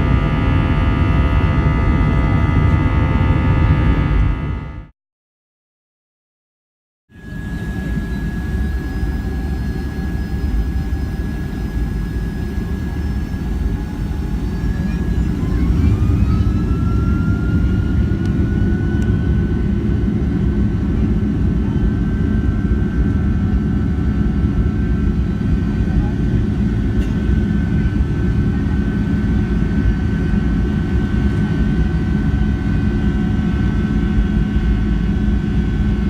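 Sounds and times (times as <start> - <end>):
jet engines rumbling and whining: 0.0 - 4.9, 7.1 - 36.0
rising engine whine: 0.0 - 4.9, 7.1 - 36.0.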